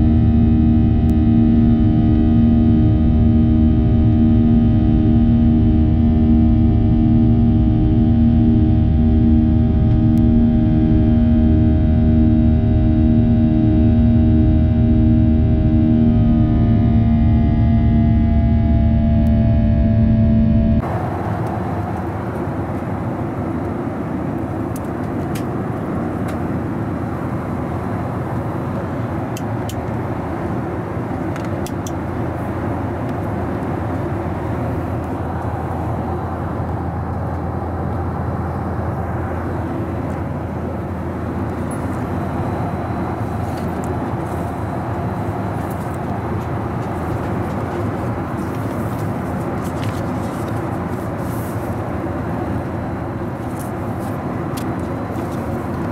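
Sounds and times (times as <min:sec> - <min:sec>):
airplane cabin airflow and engine noise: 0:00.0 - 0:55.9.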